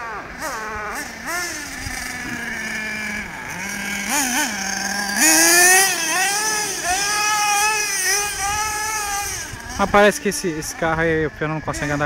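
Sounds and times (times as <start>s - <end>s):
small nitro engine revving: 0.0s - 12.0s.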